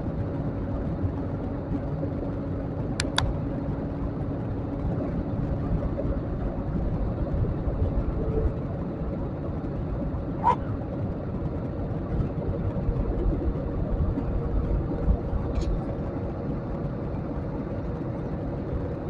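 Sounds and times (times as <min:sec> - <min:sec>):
faint steady hum: 0:00.0 - 0:19.0
jet engines and airflow in cabin: 0:00.0 - 0:19.0.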